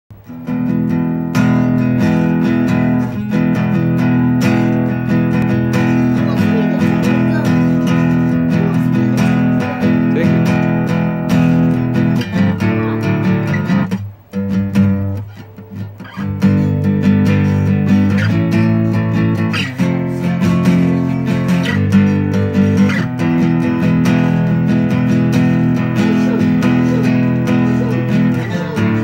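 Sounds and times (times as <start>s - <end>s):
acoustic guitar strumming: 0.1s - 29.0s.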